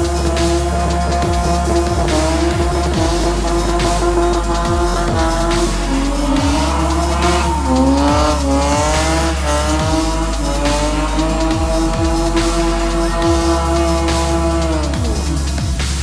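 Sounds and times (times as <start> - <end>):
car engine at high revs: 0.0 - 16.0
electronic music with heavy bass beat: 0.0 - 16.0
tyres squealing: 0.0 - 16.0.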